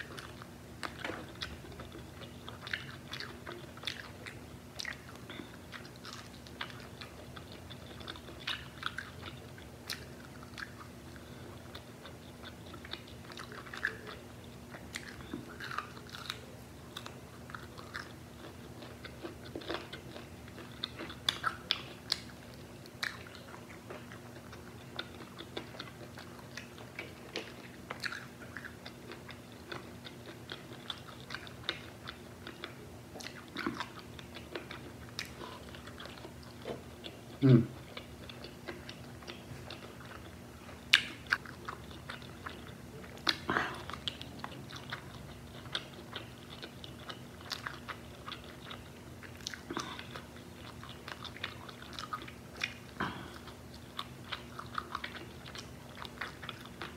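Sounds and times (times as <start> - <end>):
wet chewing mouth sounds: 0.0 - 56.9.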